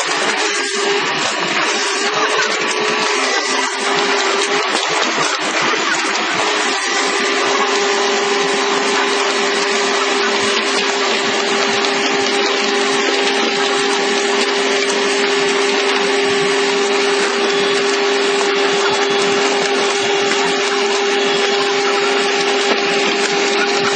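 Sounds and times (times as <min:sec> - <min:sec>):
excavator hydraulics whining: 0:00.0 - 0:23.9.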